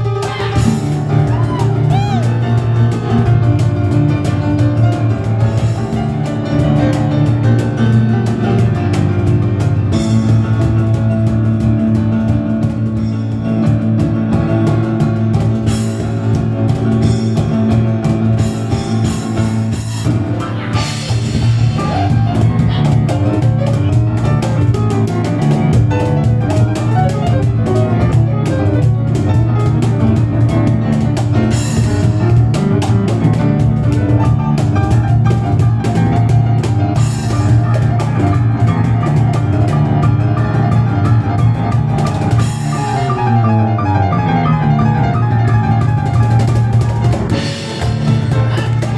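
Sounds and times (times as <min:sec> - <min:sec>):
cajon strikes: 0:00.0 - 0:48.9
piano chords and bass notes: 0:00.0 - 0:48.9.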